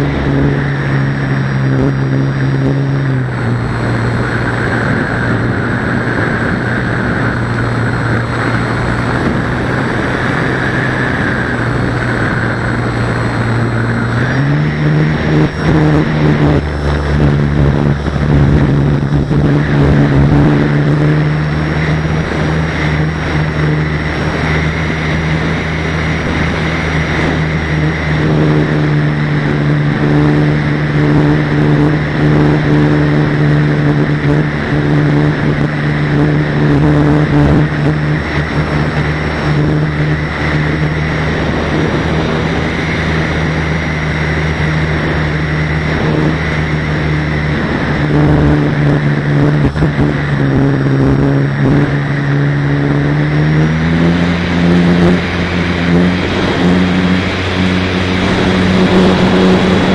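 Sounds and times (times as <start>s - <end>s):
faint high whine: 0.0s - 59.9s
model aircraft motor droning: 0.0s - 59.9s
wind on microphone: 0.0s - 59.9s.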